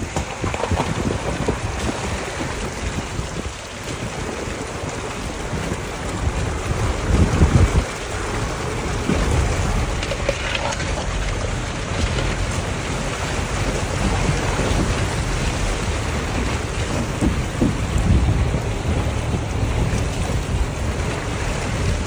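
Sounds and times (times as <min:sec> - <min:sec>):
water splashing and rushing: 0:00.0 - 0:22.0.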